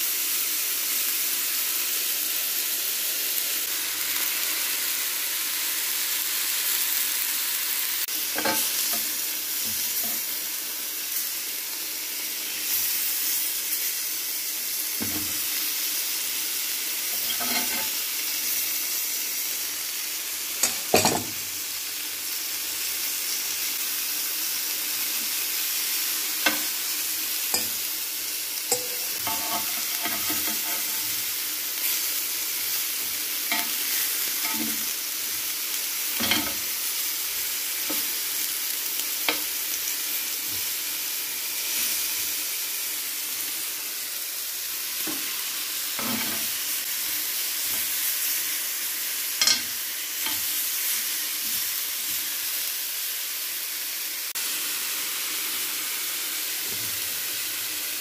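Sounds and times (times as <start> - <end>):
chicken sizzling in grill pan: 0.0 - 58.0.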